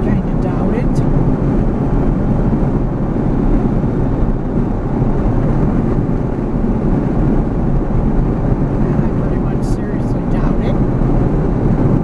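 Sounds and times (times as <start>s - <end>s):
road and engine noise in vehicle: 0.0s - 12.0s.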